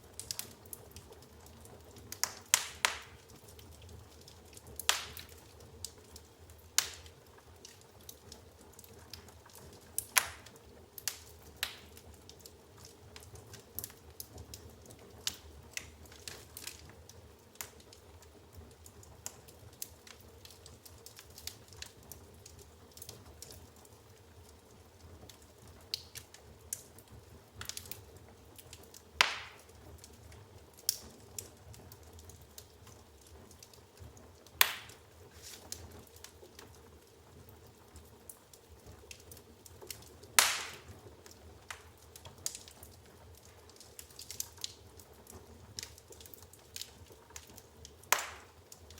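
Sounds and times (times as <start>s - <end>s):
firewood crackling and popping: 0.0s - 48.9s.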